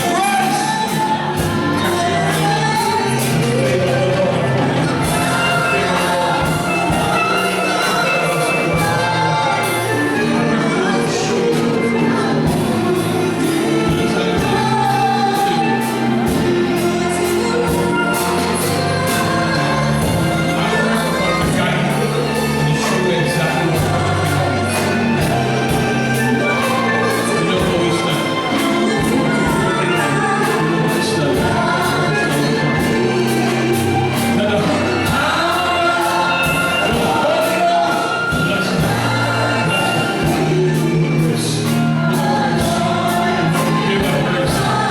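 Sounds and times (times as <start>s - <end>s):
gospel song with band: 0.0s - 44.9s.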